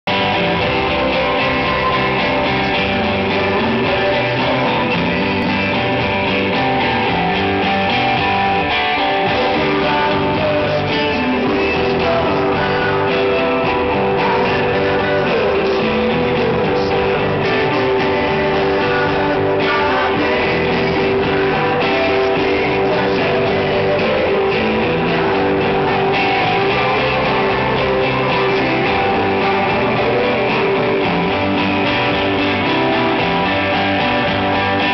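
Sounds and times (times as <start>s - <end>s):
strummed electric guitar: 0.0s - 34.9s
rock band playing live: 0.1s - 34.9s.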